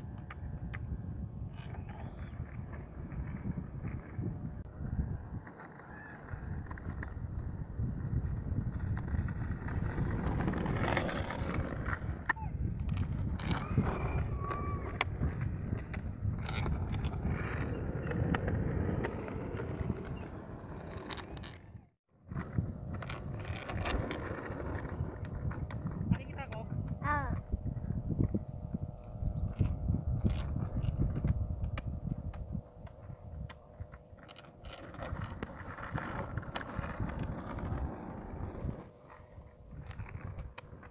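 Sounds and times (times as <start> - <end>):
skateboard wheels rolling on asphalt: 0.0 - 40.9.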